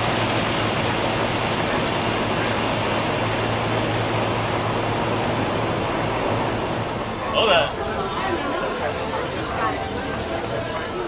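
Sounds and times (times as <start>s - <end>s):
boat engines humming: 0.0s - 11.0s.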